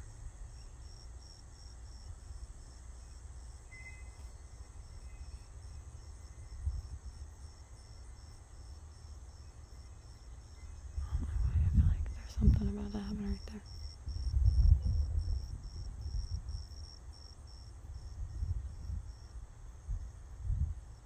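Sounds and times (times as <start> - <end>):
insects chirping: 0.0 - 21.0
low steady rumble: 0.0 - 21.0.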